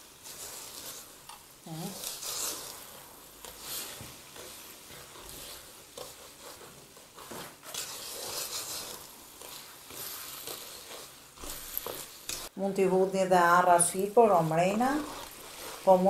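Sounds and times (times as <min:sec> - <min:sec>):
wooden spoon scraping steel bowl: 0:00.2 - 0:12.6, 0:13.4 - 0:16.0.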